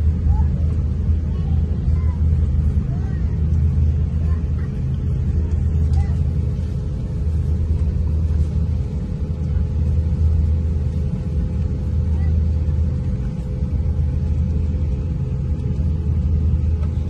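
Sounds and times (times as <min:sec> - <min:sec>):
faint steady hum: 0:00.0 - 0:17.0
low cabin rumble: 0:00.0 - 0:17.0.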